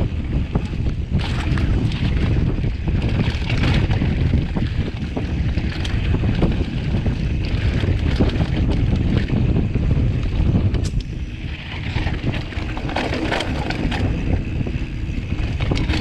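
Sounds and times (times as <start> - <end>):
bike knocks and rattles: 0.0 - 16.0
tyres rumbling on dirt: 0.0 - 16.0
wind buffeting microphone: 0.0 - 16.0.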